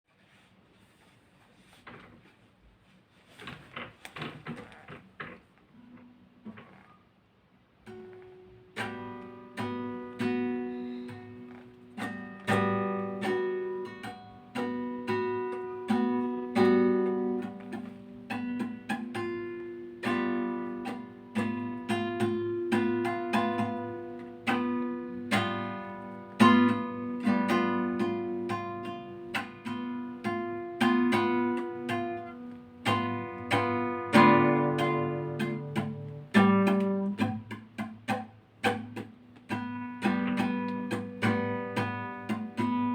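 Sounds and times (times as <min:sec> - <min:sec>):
acoustic guitar chords: 0:07.8 - 0:42.9.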